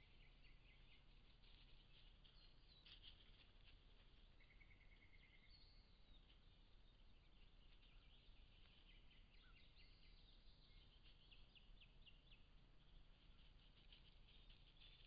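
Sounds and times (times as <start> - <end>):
distant small birds singing: 0.0 - 15.0
faint low hiss: 0.0 - 15.0.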